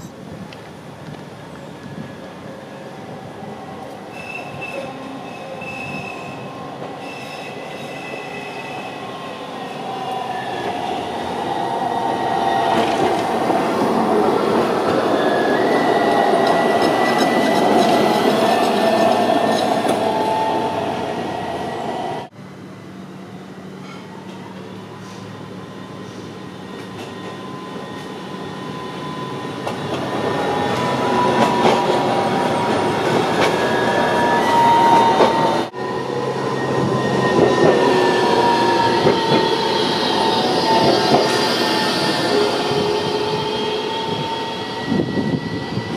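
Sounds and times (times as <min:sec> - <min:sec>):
tram running along track: 0:00.0 - 0:45.9.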